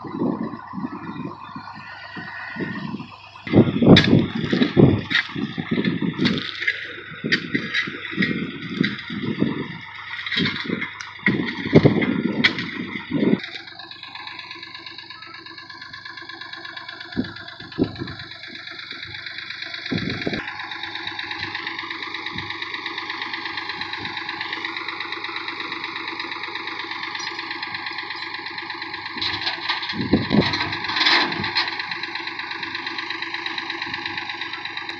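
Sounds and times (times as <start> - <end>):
backhoe engine idling: 0.0 - 34.9.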